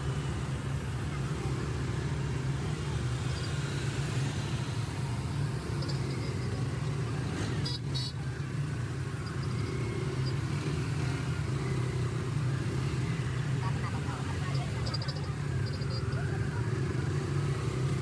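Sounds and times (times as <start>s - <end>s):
auto-rickshaw engine running: 0.0s - 18.0s
surrounding traffic: 0.0s - 18.0s.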